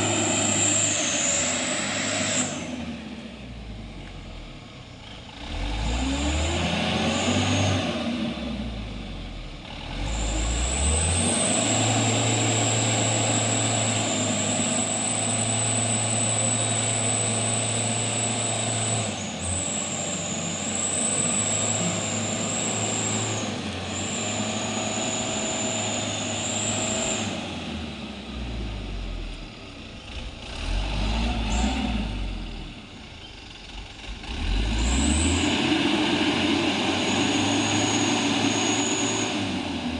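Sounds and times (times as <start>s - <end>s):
truck engine revving: 0.0s - 3.5s, 5.3s - 9.0s, 9.6s - 39.9s.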